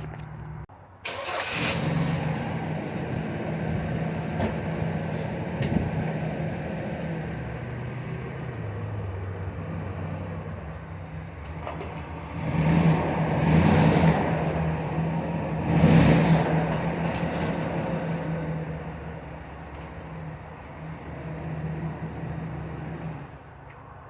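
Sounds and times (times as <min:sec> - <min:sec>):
engine idling and revving: 0:00.0 - 0:23.8.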